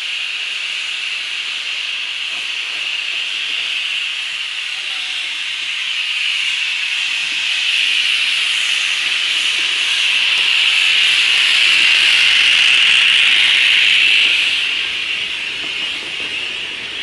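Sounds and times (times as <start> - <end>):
steam locomotive hissing steam: 0.0 - 17.0.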